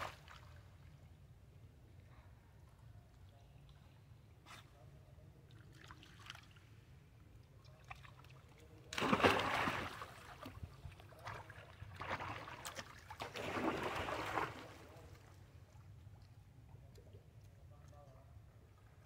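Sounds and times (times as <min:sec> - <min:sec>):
water splashing and sloshing: 0:00.0 - 0:04.0, 0:05.5 - 0:19.0.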